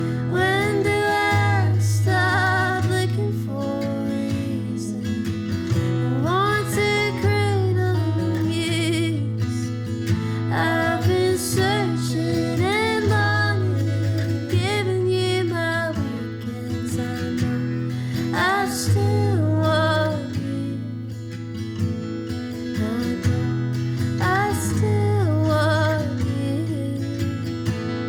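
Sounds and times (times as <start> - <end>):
woman singing: 0.0 - 21.3, 22.6 - 27.6
acoustic guitar: 0.0 - 28.0.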